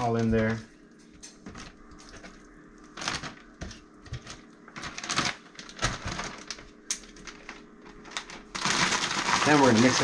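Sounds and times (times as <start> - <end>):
plastic bag crinkling: 1.4 - 10.0.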